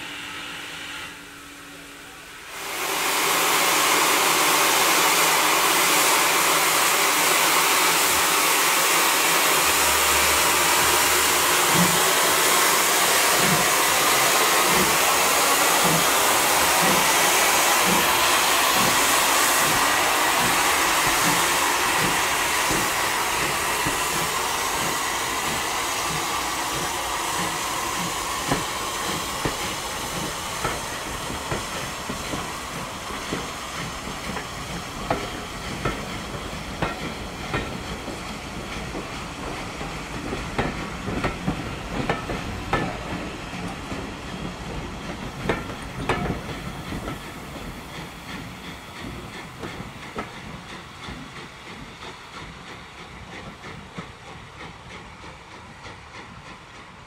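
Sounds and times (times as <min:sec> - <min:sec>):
steam locomotive hiss: 0:00.0 - 0:57.0
train wheels clicking on rail joints: 0:04.0 - 0:57.0.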